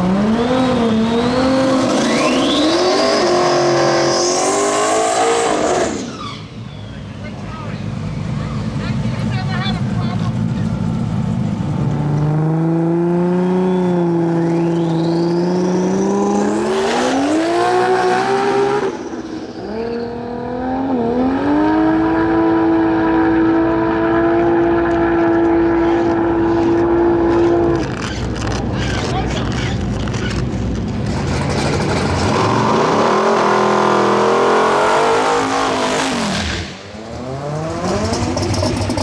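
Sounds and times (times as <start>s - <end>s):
drag racing car engine: 0.0s - 39.0s.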